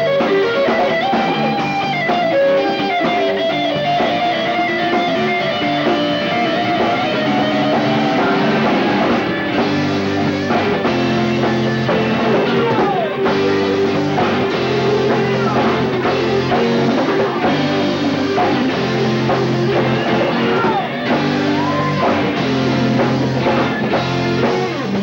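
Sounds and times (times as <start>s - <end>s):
bass guitar: 0.0s - 25.0s
drum kit: 0.0s - 25.0s
electric guitar lead: 0.0s - 25.0s.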